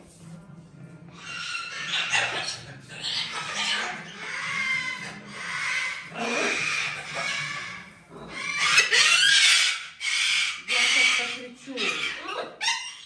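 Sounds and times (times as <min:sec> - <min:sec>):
macaw calling: 0:01.2 - 0:13.0.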